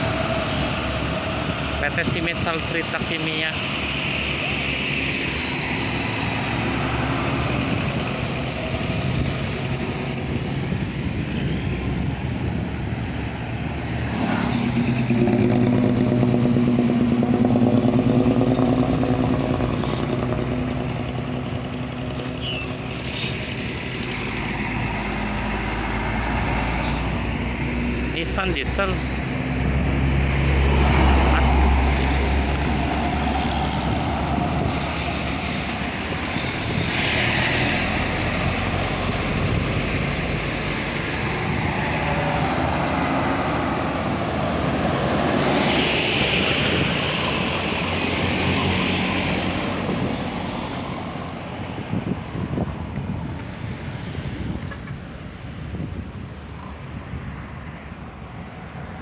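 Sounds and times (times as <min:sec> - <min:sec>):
diesel trucks driving past: 0:00.0 - 0:59.0
tyres on road: 0:00.0 - 0:59.0.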